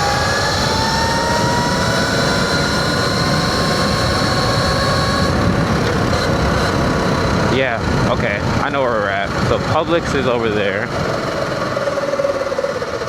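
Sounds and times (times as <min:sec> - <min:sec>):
electric dirt bike motor whining: 0:00.0 - 0:13.0
wind rumble on microphone: 0:00.0 - 0:13.0.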